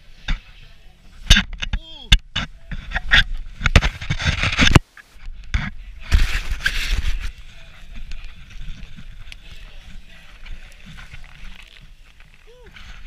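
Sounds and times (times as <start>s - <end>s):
glove rustling on microphone: 2.4s - 13.0s.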